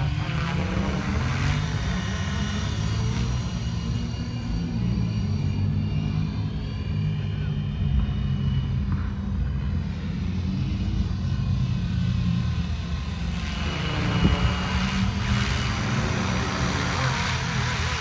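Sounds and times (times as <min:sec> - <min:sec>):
rc helicopter rotor whirring: 0:00.0 - 0:18.0.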